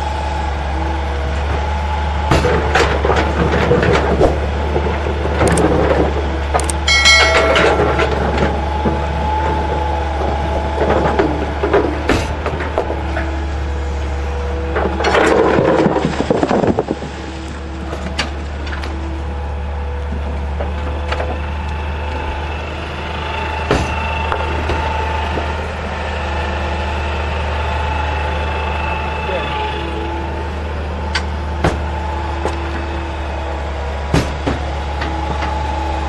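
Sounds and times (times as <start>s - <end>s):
heavy machine engine running: 0.0s - 36.0s.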